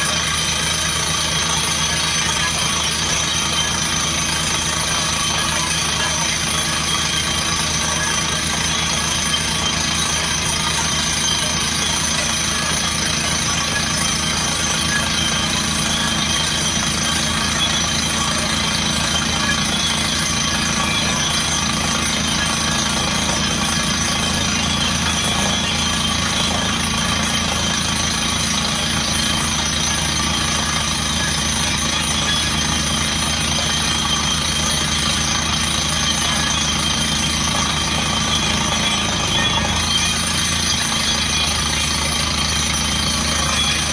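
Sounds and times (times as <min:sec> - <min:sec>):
drilling rig engine drone: 0:00.0 - 0:43.9
rapid rattling pulse: 0:00.0 - 0:43.9.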